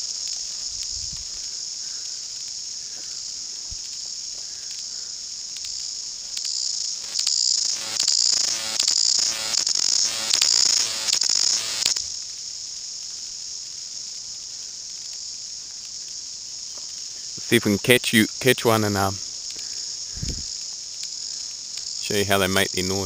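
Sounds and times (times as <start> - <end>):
chorus of cicadas: 0.0 - 23.0
nearer cicada pulsing song: 0.0 - 23.0.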